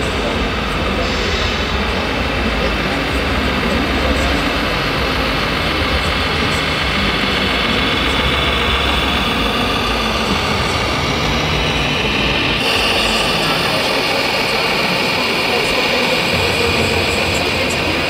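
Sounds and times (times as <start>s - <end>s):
busy exhibition hall noise: 0.0s - 18.0s
model truck engine drone: 0.0s - 18.0s.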